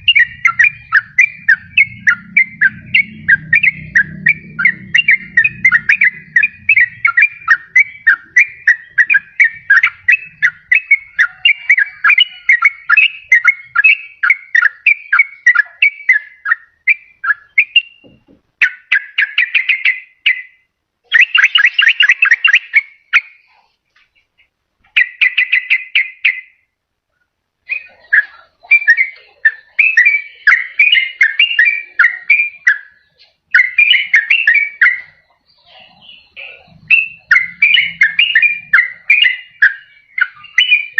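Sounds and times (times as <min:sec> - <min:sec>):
bulbul singing rapid notes: 0:00.0 - 0:23.7, 0:24.9 - 0:26.7, 0:27.6 - 0:40.9.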